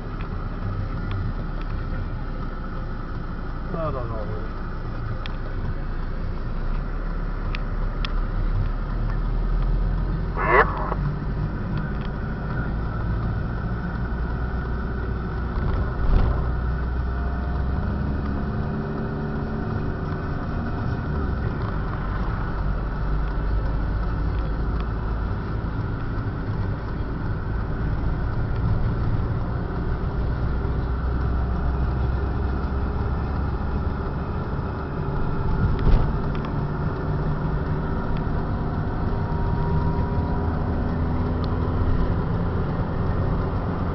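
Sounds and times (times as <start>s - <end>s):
car engine: 0.0s - 43.9s
road noise: 0.0s - 43.9s.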